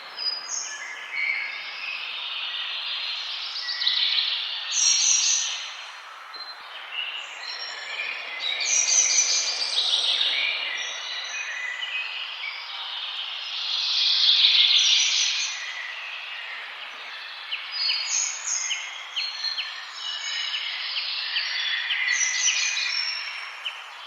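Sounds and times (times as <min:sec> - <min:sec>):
wild birds singing: 0:00.0 - 0:24.0.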